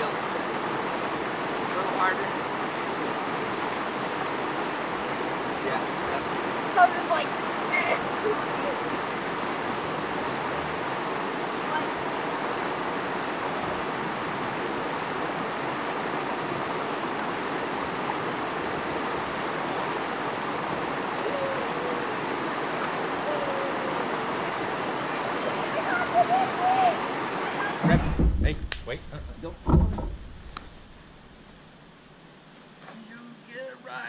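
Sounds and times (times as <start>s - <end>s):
river flowing over rocks: 0.0s - 28.3s.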